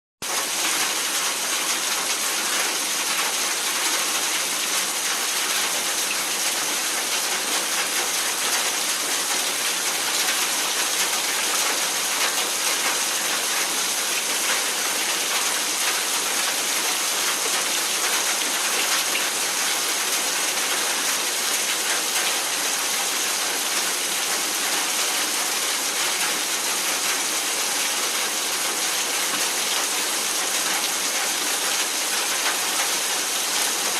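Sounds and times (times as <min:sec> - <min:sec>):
heavy rain: 0:00.2 - 0:33.9.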